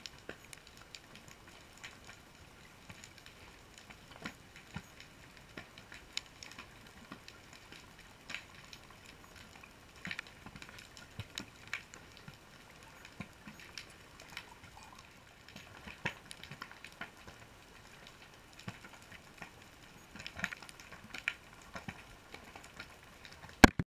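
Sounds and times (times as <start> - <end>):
sharp underwater clicks and crackles: 0.0 - 23.8.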